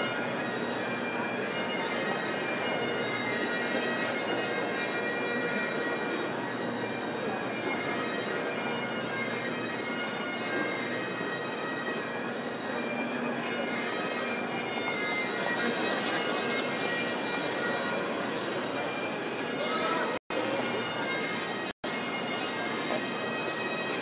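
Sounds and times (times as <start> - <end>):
bagpipes playing: 0.0 - 24.0.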